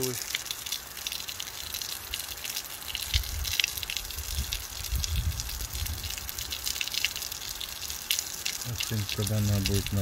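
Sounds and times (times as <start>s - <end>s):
water gushing and dripping: 0.0s - 10.0s.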